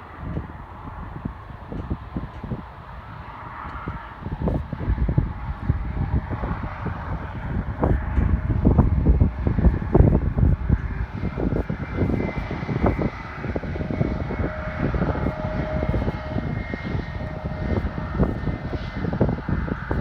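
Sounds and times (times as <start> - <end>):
airplane engines running: 0.0 - 20.0
wind buffeting microphone: 0.0 - 20.0.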